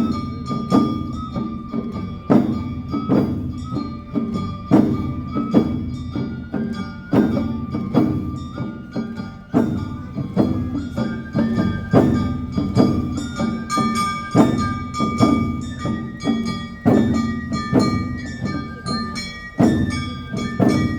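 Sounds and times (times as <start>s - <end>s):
drum strikes: 0.0s - 20.9s
flute high notes: 0.0s - 20.9s
metal bell strikes: 0.0s - 20.9s.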